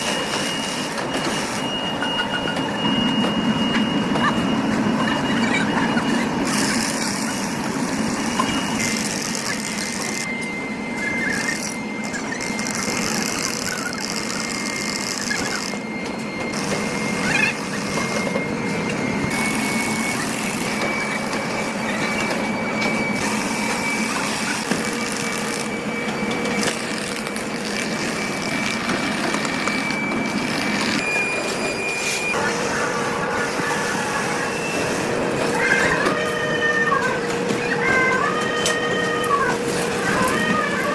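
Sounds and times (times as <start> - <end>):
heavy factory machinery: 0.0 - 40.9
high-pitched machine whine: 0.0 - 40.9
low machine hum: 0.0 - 40.9.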